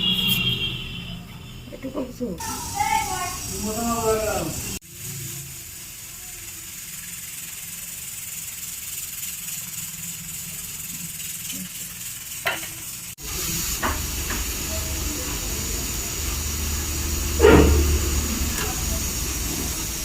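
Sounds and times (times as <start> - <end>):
food sizzling in a pan: 2.4 - 20.0.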